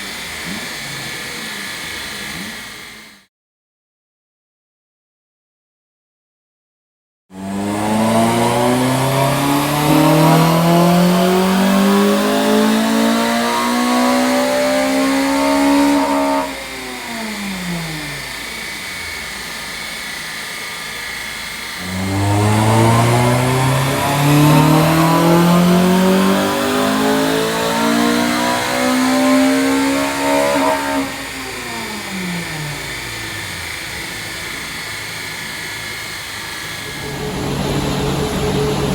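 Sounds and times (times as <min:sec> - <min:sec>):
car engine revving at full throttle: 0:00.0 - 0:03.3, 0:07.4 - 0:38.9.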